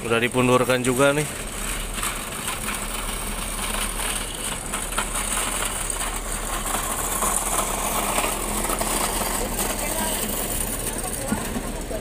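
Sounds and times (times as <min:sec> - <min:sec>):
diesel bus engine running: 0:00.0 - 0:12.0.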